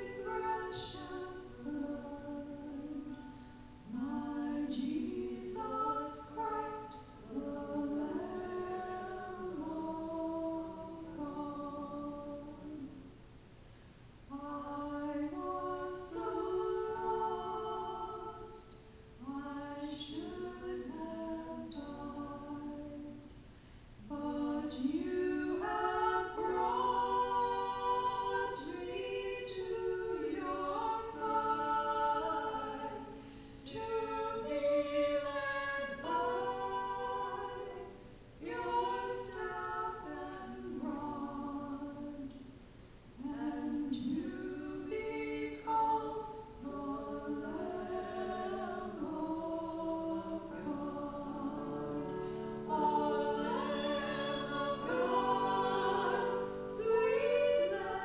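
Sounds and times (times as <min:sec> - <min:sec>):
women singing a duet: 0:00.0 - 0:13.1, 0:14.3 - 0:23.4, 0:24.0 - 0:42.6, 0:43.2 - 0:58.0.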